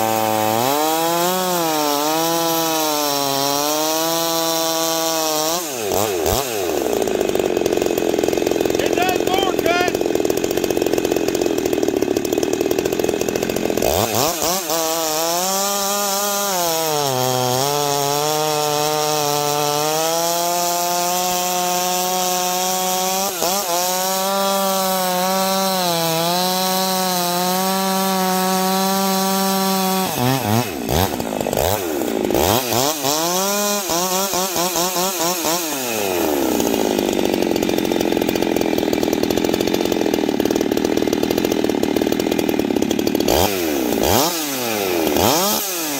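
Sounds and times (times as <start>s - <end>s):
chainsaw cutting log: 0.0s - 45.9s
chainsaw engine revving: 0.0s - 45.9s.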